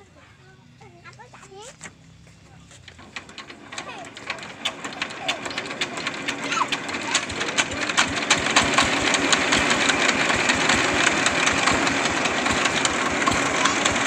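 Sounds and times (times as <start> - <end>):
diesel engine starting up: 2.0 - 14.0.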